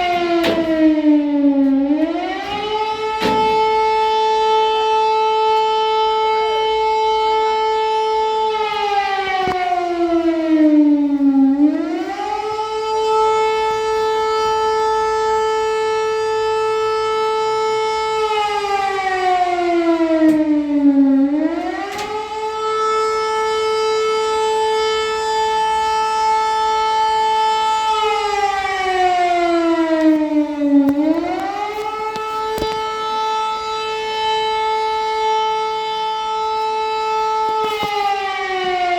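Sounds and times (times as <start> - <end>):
civil defense siren: 0.0 - 38.9.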